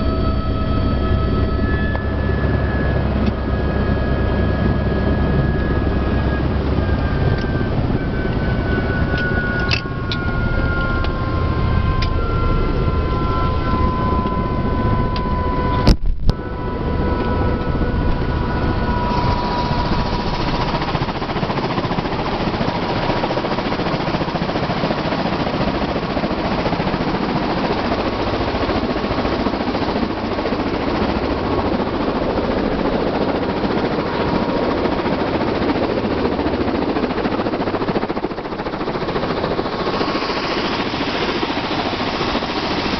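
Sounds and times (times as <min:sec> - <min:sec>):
faint whine: 0:00.0 - 0:42.9
helicopter turbine and rotor noise: 0:00.0 - 0:42.9.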